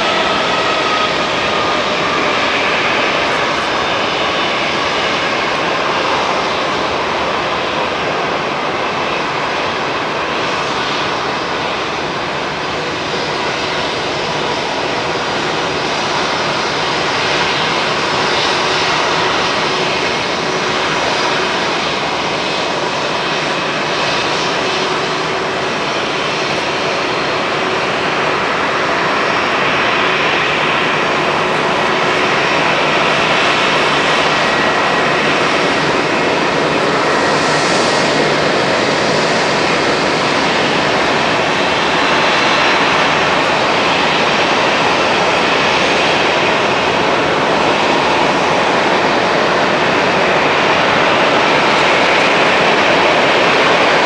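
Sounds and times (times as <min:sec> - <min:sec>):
jet engines whining at taxi power: 0:00.0 - 0:54.0.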